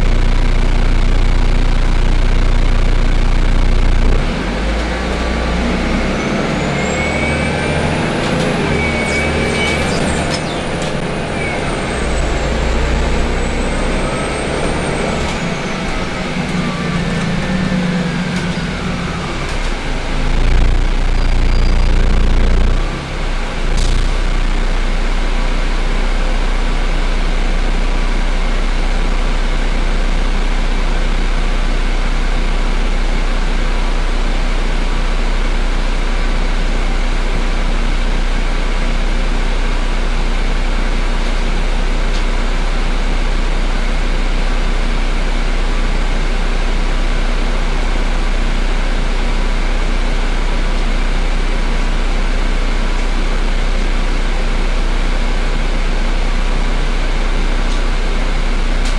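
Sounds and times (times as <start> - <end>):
bus diesel engine idling: 5.6 - 58.9.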